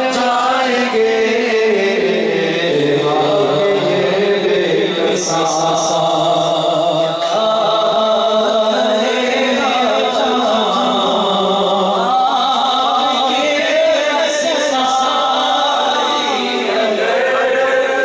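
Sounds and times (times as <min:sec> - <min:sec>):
man chanting into microphone: 0:00.0 - 0:18.0.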